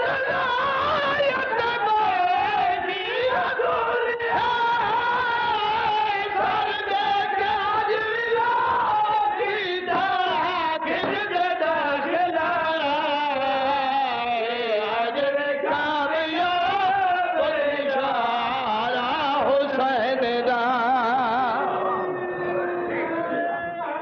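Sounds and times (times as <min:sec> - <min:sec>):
man chanting melismatically: 0:00.0 - 0:24.0.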